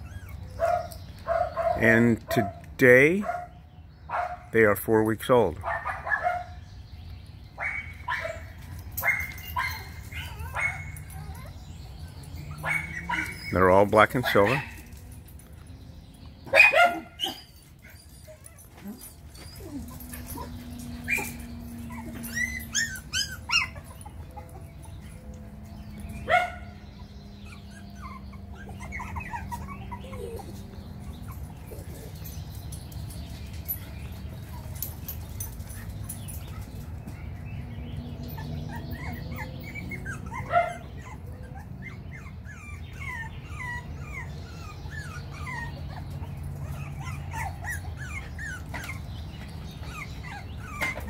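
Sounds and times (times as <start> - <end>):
puppies whimpering and yipping: 0.0 - 2.6, 6.0 - 51.0.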